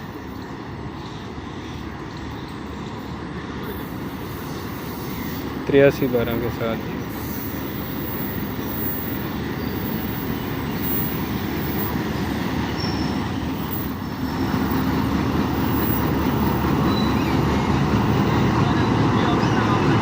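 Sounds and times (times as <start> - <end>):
train engine and wheels rumbling: 0.0 - 20.0.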